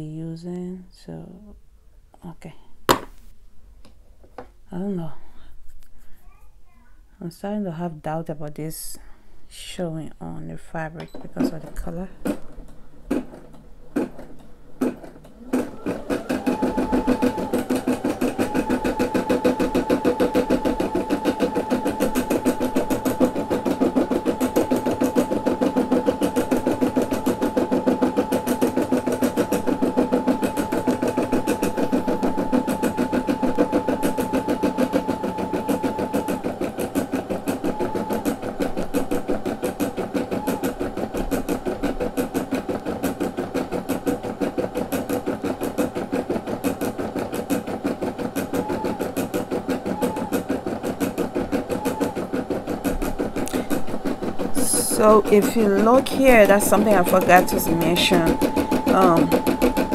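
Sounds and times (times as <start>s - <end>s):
embroidery machine stitching: 11.4s - 59.9s.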